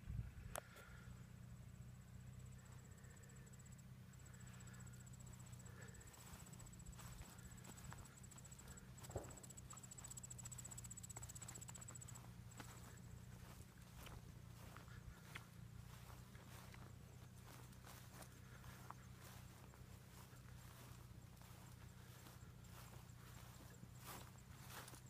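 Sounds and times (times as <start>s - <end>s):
insects trilling: 2.5s - 25.0s.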